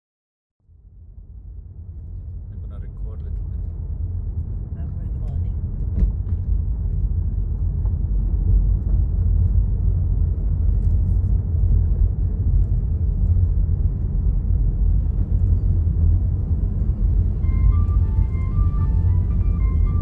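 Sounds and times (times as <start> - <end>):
car driving in strong wind: 0.8 - 20.0.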